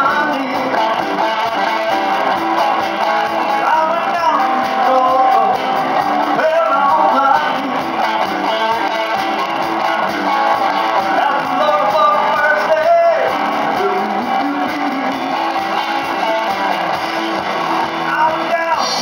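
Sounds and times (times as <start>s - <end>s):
bass guitar: 0.0s - 19.0s
electric guitar lead: 0.0s - 19.0s.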